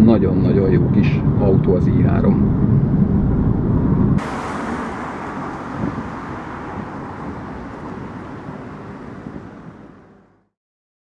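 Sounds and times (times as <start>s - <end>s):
cars driving by: 0.8s - 10.4s.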